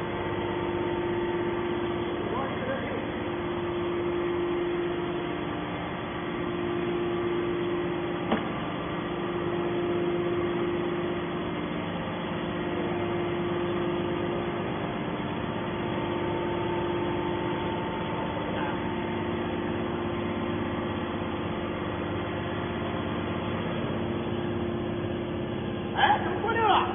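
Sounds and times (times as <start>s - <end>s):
hydraulic power unit humming: 0.0s - 26.9s.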